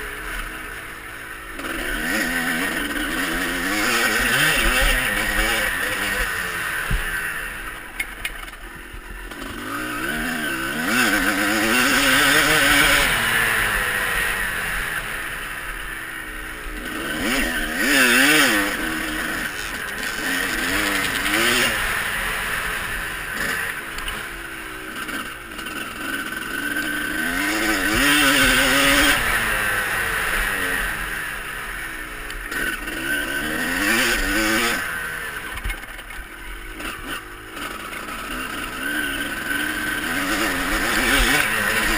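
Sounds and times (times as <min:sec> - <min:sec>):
motocross bike engines revving: 0:00.0 - 0:41.9.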